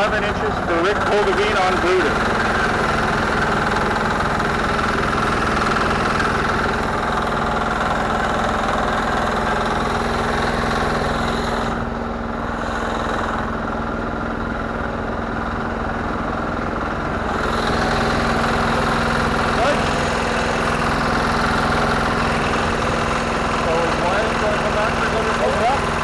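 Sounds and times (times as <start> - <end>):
garden tractor engine idling: 0.0 - 26.0.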